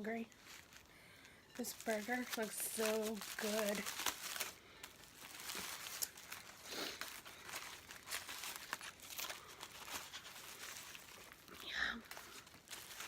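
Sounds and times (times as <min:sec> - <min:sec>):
paper wrapper crinkling: 0:00.0 - 0:13.0.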